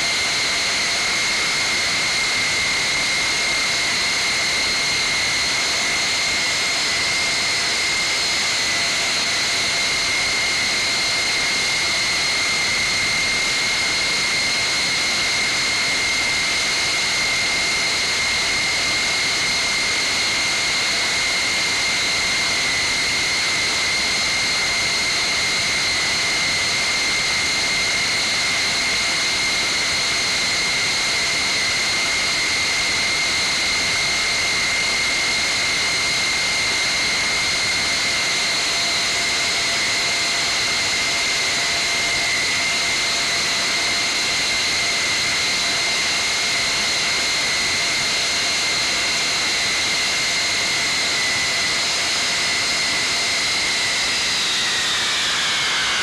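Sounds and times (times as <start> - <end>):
high-pitched engine whine: 0.0 - 56.0
jet engines running: 0.0 - 56.0.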